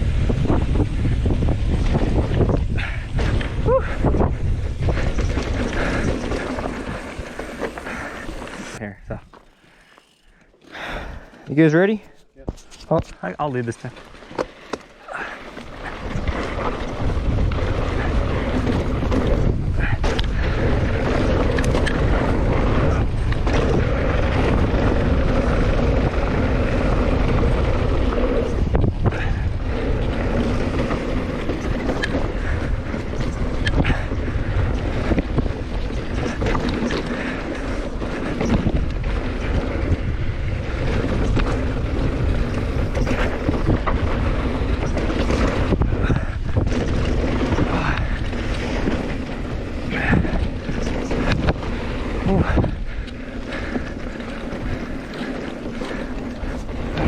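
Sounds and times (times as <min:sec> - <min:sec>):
wind on microphone: 0:00.0 - 0:09.2, 0:15.2 - 0:57.0
bike tyre noise: 0:00.0 - 0:57.0
bike knocks and rattles: 0:00.2 - 0:10.3, 0:13.8 - 0:57.0.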